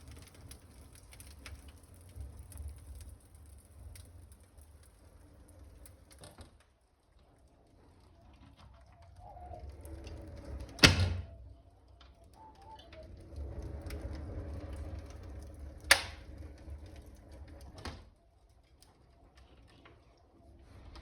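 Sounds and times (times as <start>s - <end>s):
burning wood cracking: 0.0s - 21.0s.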